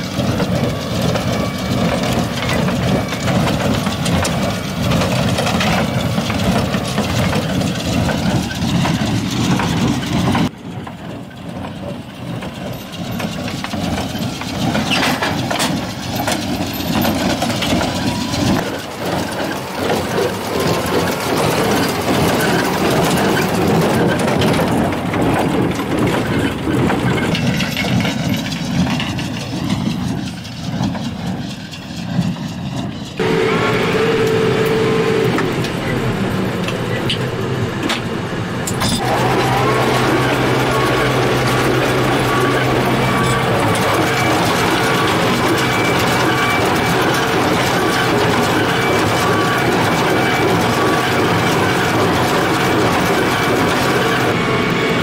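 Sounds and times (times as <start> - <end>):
hay baler working: 0.0 - 55.0
tractor engine running: 0.0 - 55.0.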